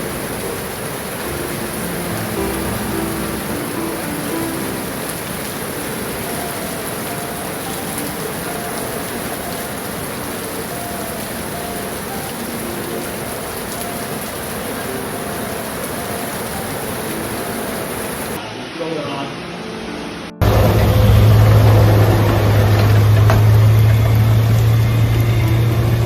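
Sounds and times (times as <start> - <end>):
heavy rain falling: 0.0 - 18.5, 20.4 - 26.0.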